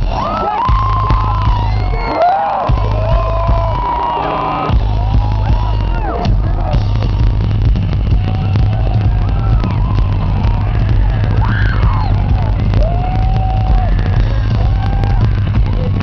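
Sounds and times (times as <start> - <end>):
heavy bass pulsing: 0.0 - 2.0, 2.6 - 16.0
distorted live rock band: 0.0 - 16.0.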